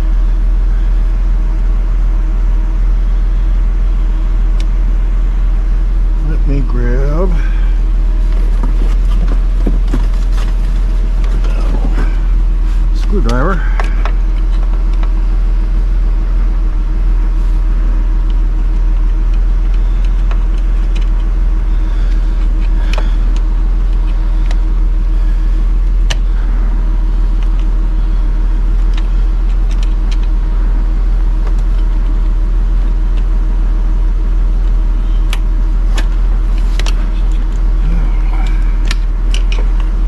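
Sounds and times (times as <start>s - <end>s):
low rumble with hum: 0.0s - 40.0s.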